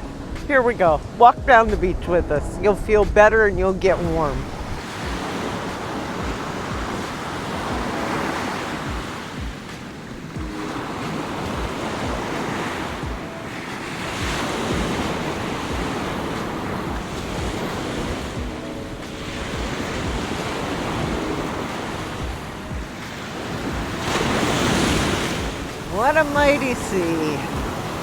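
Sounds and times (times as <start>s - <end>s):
wind buffeting microphone: 0.0s - 28.0s
waves breaking on beach: 3.8s - 28.0s.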